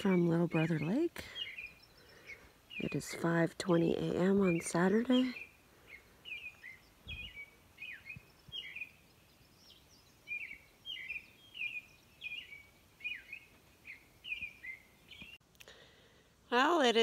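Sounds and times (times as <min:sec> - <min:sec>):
faint background hiss: 0:00.0 - 0:17.0
songbird chirping: 0:00.0 - 0:17.0.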